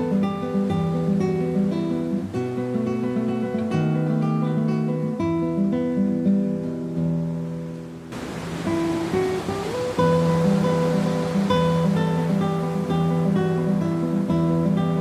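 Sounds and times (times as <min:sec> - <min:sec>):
acoustic guitar picking: 0:00.0 - 0:08.0, 0:08.6 - 0:15.0.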